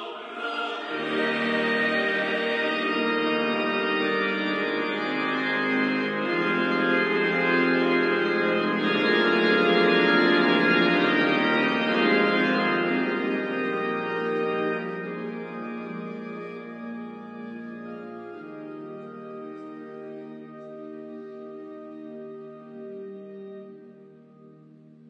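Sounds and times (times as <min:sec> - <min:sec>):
organ playing held chords: 0:00.0 - 0:25.0.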